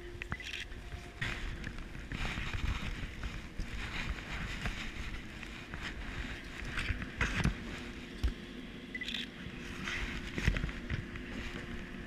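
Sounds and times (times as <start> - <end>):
machinery hum: 0.0 - 12.0
wind noise: 0.0 - 12.0.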